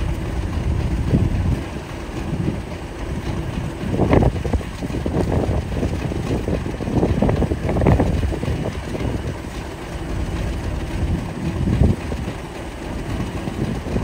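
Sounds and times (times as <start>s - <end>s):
diesel locomotive engine running: 0.0s - 14.0s
wind buffeting microphone: 0.0s - 14.0s.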